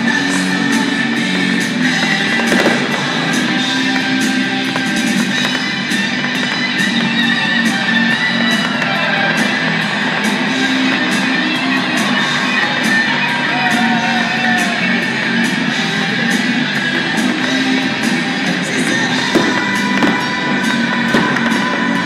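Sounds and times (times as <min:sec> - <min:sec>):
rock music over speakers: 0:00.0 - 0:22.0.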